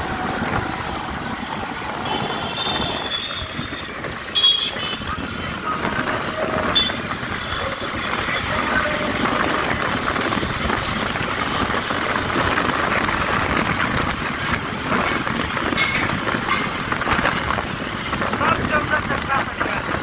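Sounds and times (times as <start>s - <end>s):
vehicle tyre and engine noise: 0.0s - 20.0s.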